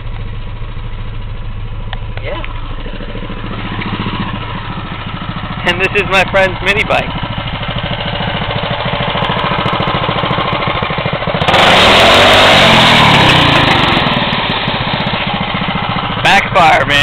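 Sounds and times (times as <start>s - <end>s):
two-stroke engine idling and revving: 0.0s - 17.0s.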